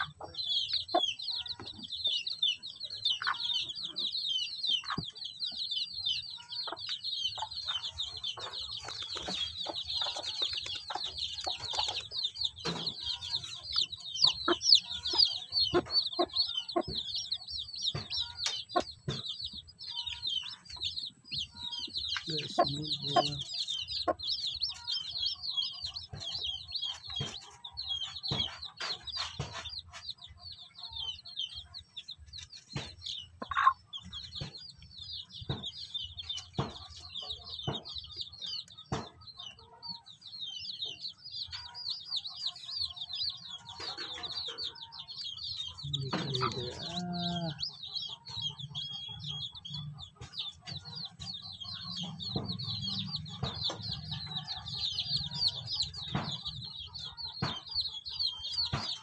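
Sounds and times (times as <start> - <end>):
chicks peeping: 0.0 - 59.0
hen clucking: 0.0 - 59.0.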